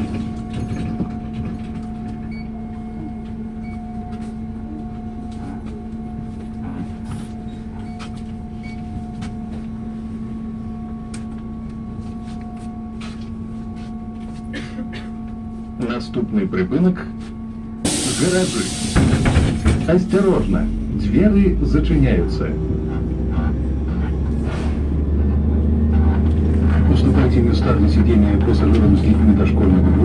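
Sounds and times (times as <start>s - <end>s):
bus engine humming: 0.0s - 30.0s.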